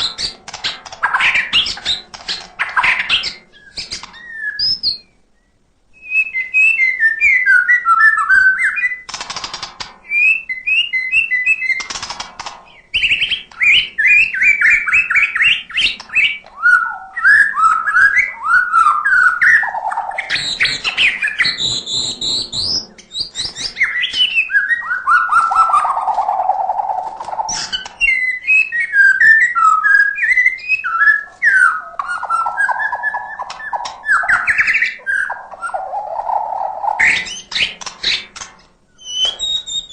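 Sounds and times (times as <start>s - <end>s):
songbird singing varied song: 1.0s - 9.1s, 10.0s - 11.9s, 12.7s - 38.3s, 38.9s - 39.9s.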